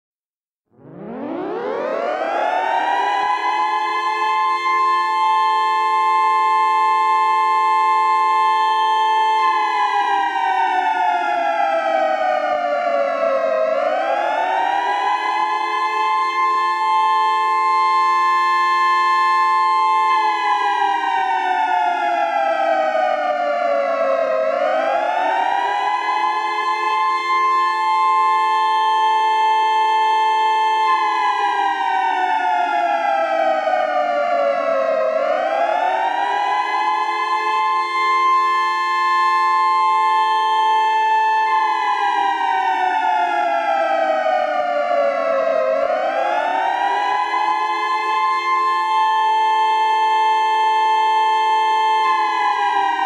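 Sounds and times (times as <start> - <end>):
air raid siren wailing: 0.8 - 53.0.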